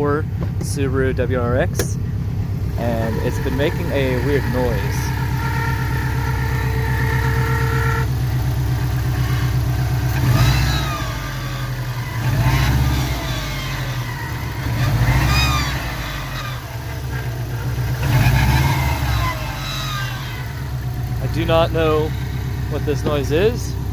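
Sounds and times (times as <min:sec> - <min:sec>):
engine whine: 0:00.0 - 0:23.9
car engine revving: 0:00.8 - 0:23.9.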